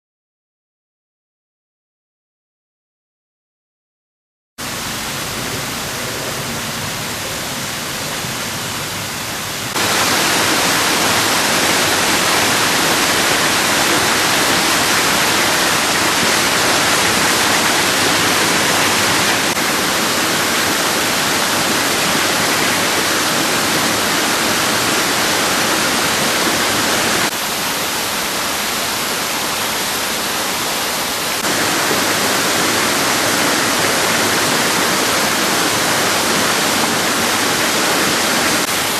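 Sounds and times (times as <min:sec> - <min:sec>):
running water: 0:04.6 - 0:38.9.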